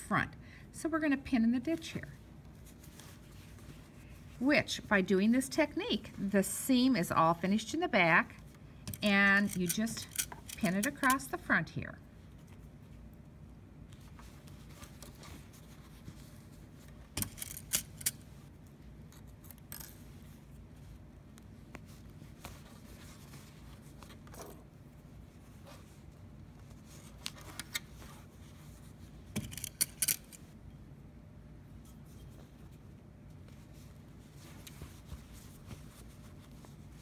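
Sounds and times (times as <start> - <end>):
low steady hum: 0.0 - 37.0
fabric handling: 1.7 - 11.5, 12.1 - 17.2, 18.1 - 29.4, 31.6 - 37.0.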